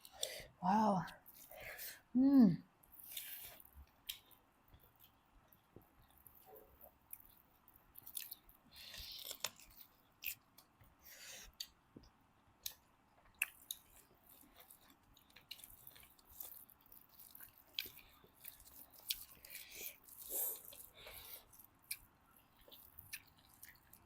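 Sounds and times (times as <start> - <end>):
people chewing: 2.9 - 24.0.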